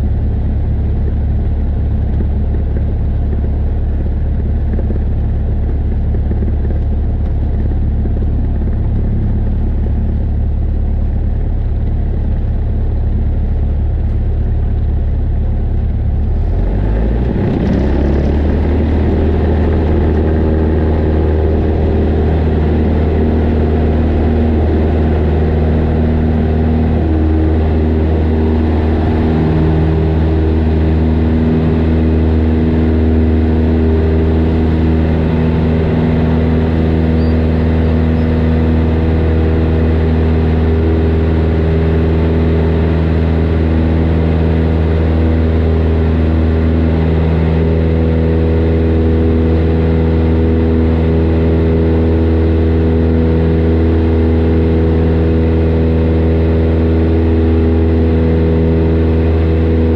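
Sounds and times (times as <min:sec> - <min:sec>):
light airplane engine drone: 0:00.0 - 0:59.9.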